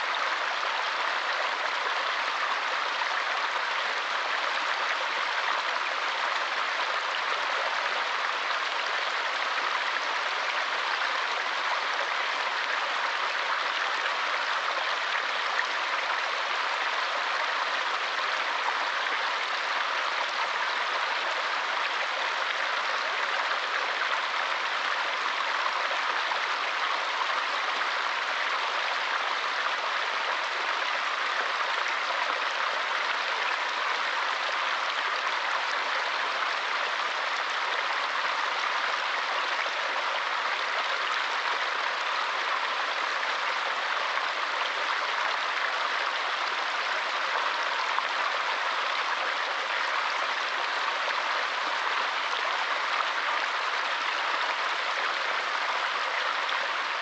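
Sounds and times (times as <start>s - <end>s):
stream splashing over rocks: 0.0s - 57.0s.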